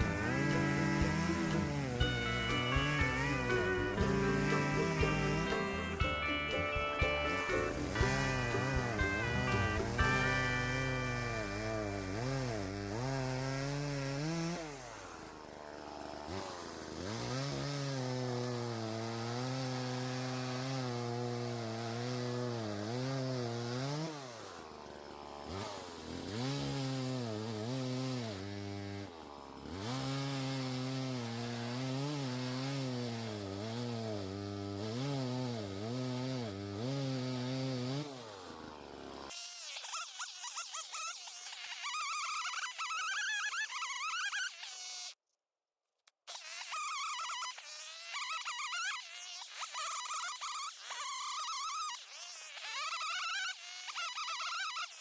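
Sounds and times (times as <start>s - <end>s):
chainsaw cutting wood: 0.0s - 45.2s, 46.0s - 55.0s.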